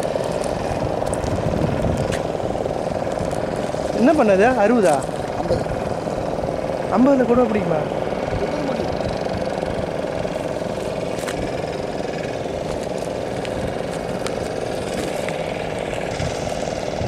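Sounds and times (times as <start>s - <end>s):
engine-like drone: 0.0s - 17.0s.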